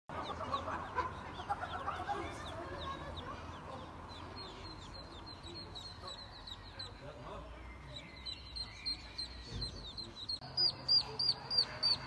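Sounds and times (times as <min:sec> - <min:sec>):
ducklings peeping: 0:00.1 - 0:12.0.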